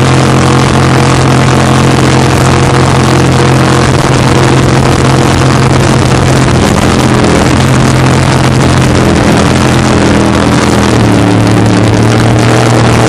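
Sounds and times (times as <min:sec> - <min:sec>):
jet boat engine running: 0:00.0 - 0:13.0.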